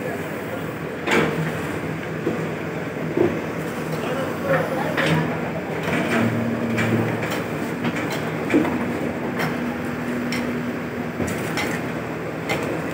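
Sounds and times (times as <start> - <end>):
diesel engine running: 2.0 - 12.9.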